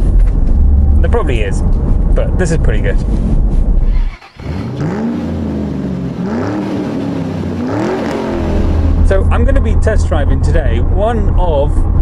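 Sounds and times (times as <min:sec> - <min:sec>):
car engine revving: 0:00.0 - 0:12.0
in-cabin road rumble: 0:00.0 - 0:12.0.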